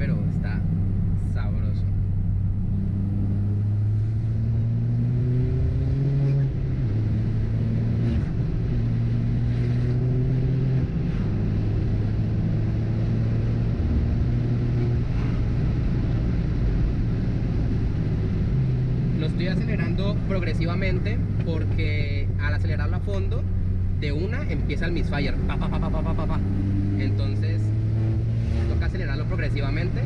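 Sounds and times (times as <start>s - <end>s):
car engine accelerating through gears: 1.9s - 21.8s, 22.6s - 30.0s.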